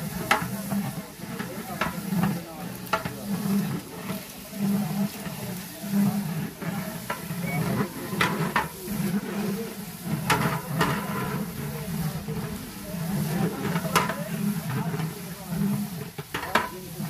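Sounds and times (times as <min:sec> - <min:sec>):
sizzling: 0:00.0 - 0:17.0
spatula scraping rice in pot: 0:00.0 - 0:17.0.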